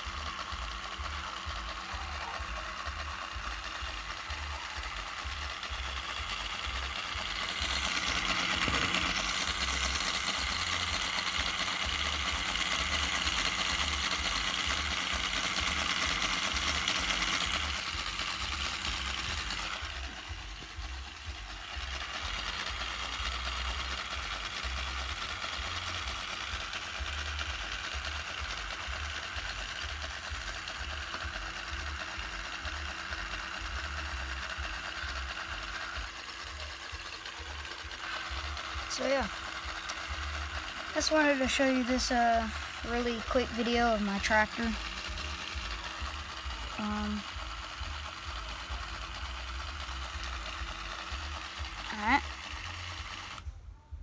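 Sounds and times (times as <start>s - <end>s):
small electric motor running: 0.0s - 53.6s.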